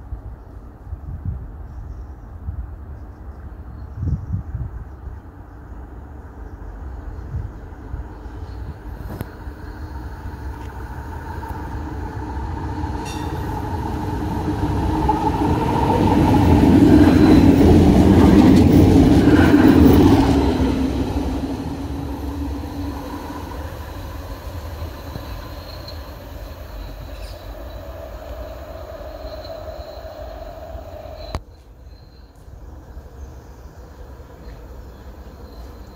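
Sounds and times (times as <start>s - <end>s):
tram running on rails: 0.0s - 35.9s.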